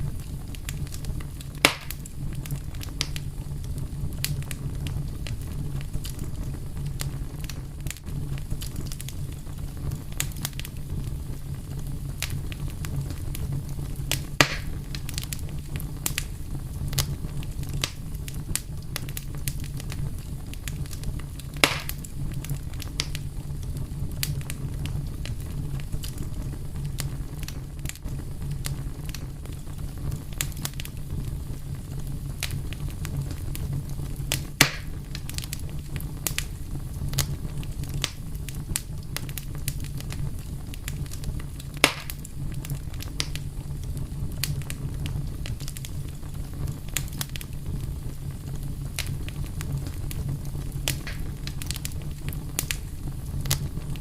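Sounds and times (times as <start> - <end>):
fire popping: 0.0 - 54.0
wood fire crackling: 0.0 - 54.0.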